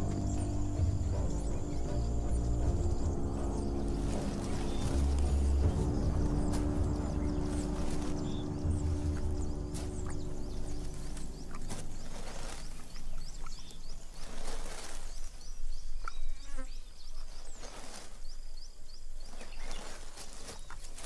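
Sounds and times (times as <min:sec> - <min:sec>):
claws digging in dry sandy soil: 0:00.0 - 0:21.0
insects chirping: 0:00.0 - 0:21.0.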